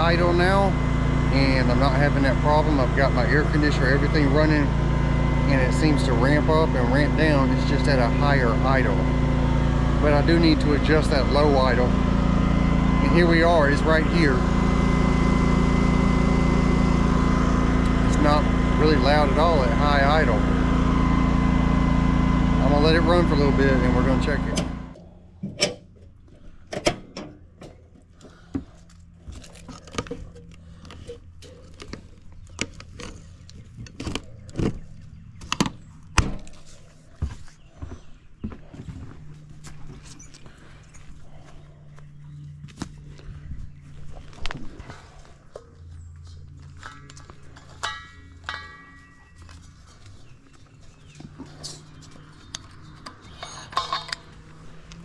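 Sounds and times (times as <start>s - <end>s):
generator humming: 0.0s - 55.0s.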